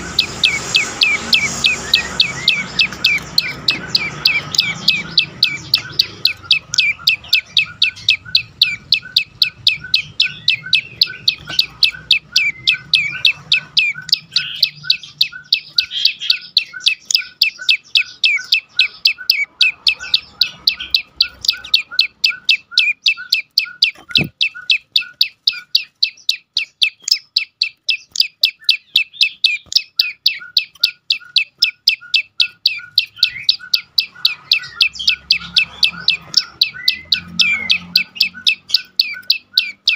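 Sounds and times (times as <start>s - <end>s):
bird calling sharp chip notes: 0.0s - 39.9s.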